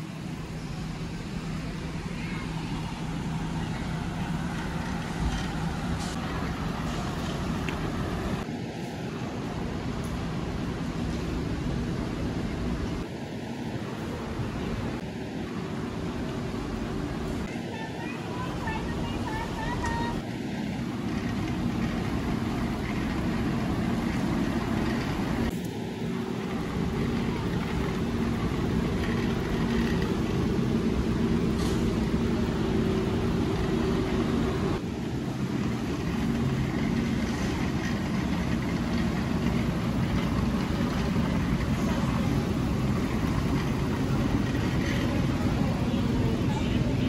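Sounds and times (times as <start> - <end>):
store background rumble and hum: 0.0 - 47.0.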